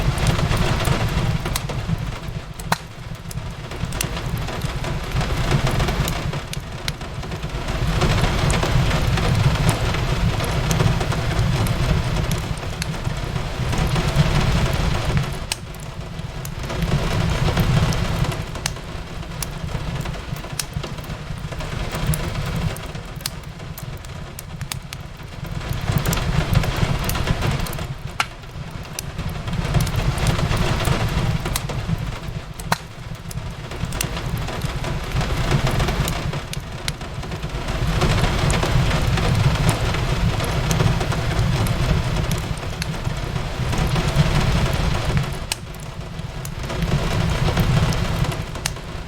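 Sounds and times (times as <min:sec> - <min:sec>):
fireplace crackling and popping: 0:00.0 - 0:49.0
rain on a window: 0:00.0 - 0:49.0.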